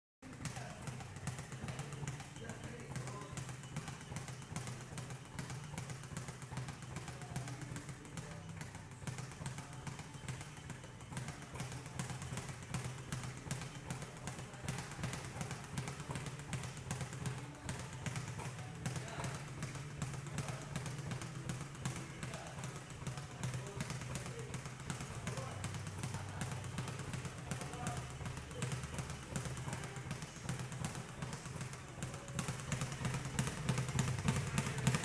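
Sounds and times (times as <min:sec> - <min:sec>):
speed bag rapid taps: 0:00.2 - 0:35.0.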